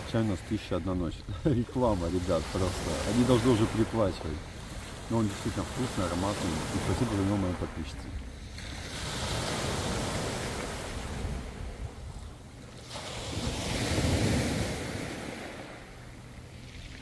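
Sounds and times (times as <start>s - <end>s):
waves washing on pebble beach: 0.0s - 16.0s.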